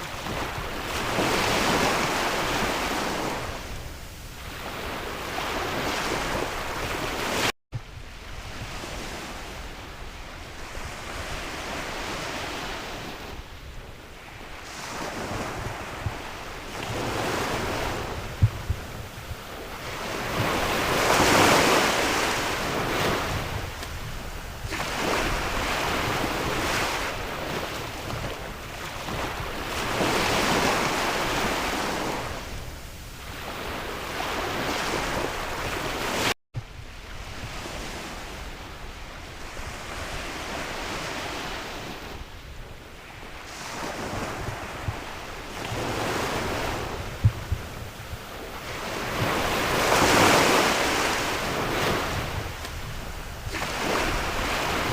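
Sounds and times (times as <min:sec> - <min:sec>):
sea waves breaking: 0:00.0 - 0:07.5, 0:08.2 - 0:13.5, 0:14.1 - 0:54.9
wind rumbling on microphone: 0:00.0 - 0:54.9.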